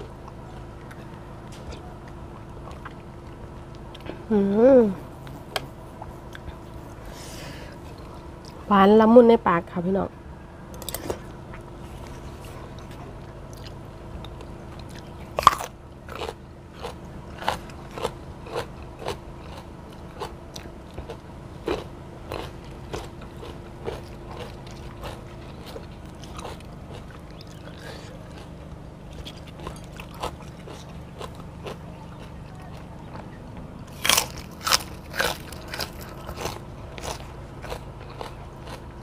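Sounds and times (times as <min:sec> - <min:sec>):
wet crunchy chewing: 0:00.0 - 0:04.2, 0:10.7 - 0:39.0.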